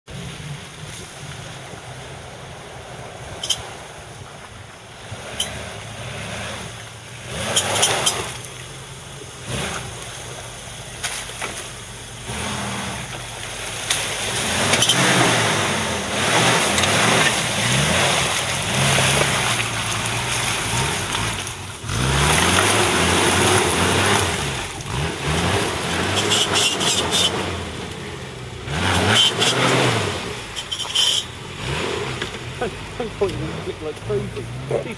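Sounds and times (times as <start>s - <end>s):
mud splashing: 0.1s - 34.9s
engine revving: 4.8s - 34.9s.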